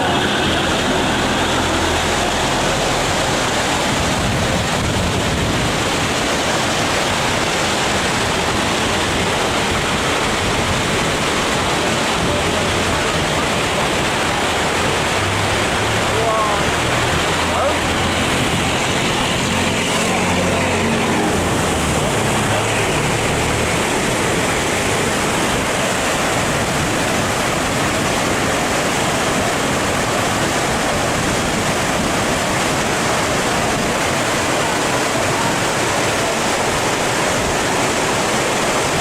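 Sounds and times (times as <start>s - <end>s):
boat engine drone: 0.0s - 39.0s
water rushing through sluice gates: 0.0s - 39.0s.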